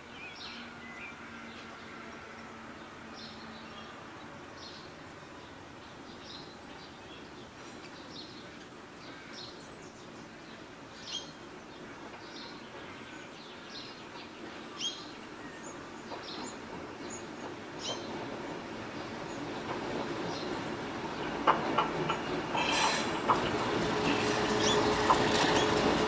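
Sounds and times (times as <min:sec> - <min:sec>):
low rumble of a train: 0:00.0 - 0:26.0
outdoor background noise: 0:00.0 - 0:26.0
birds chirping: 0:04.6 - 0:26.0.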